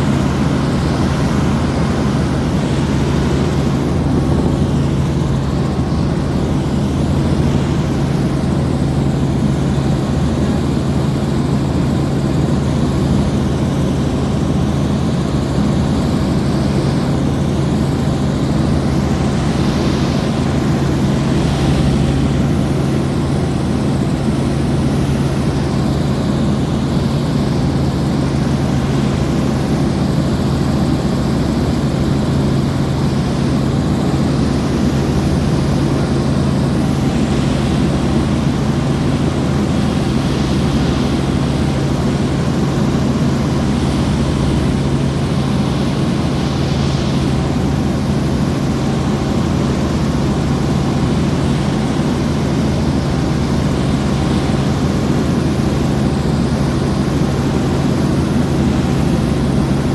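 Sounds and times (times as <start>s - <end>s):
helicopter in flight: 0.0s - 59.9s.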